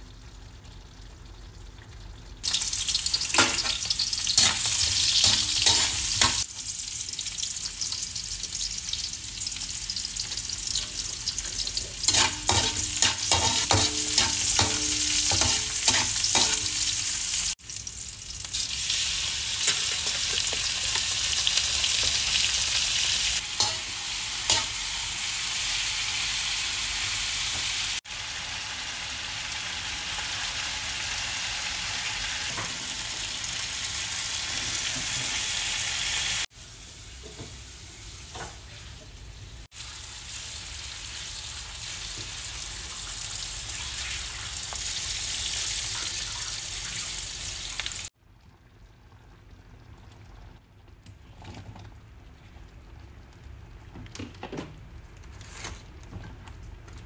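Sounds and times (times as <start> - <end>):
food sizzling in hot oil: 2.4 - 48.2.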